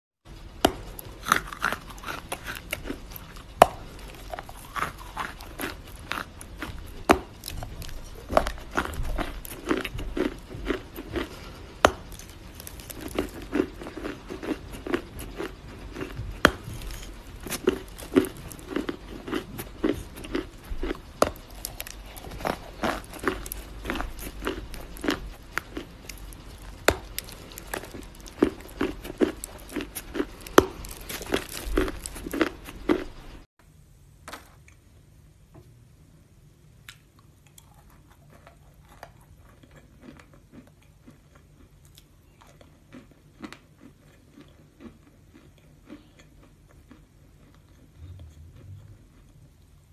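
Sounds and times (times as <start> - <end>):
chalk crunching while chewed: 0.7 - 33.4, 36.9 - 49.8.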